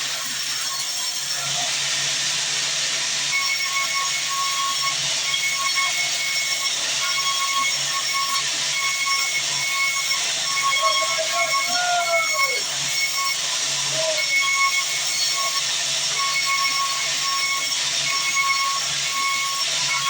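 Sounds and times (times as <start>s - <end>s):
band saw cutting wood: 0.0s - 20.0s.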